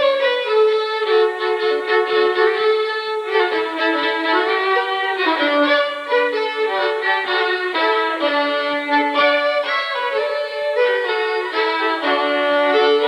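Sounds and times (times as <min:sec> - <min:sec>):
lively fiddle tune: 0:00.0 - 0:13.0.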